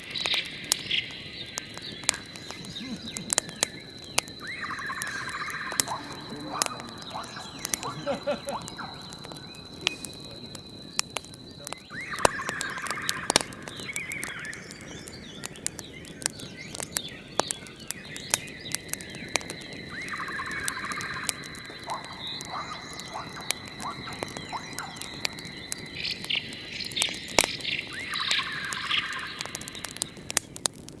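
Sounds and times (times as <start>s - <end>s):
thin steady high tones: 0.0s - 15.4s, 16.4s - 30.3s
warbling bird chirps: 0.0s - 30.4s
fire crackling with sharp pops: 0.0s - 31.0s.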